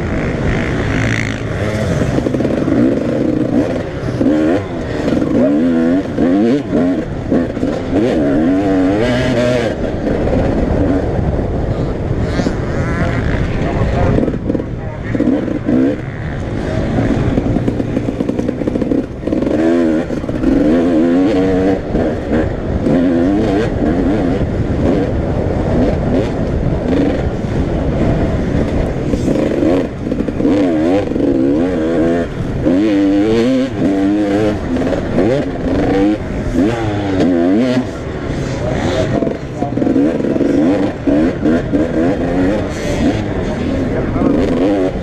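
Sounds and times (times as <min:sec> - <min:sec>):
motocross bikes revving: 0:00.0 - 0:45.0.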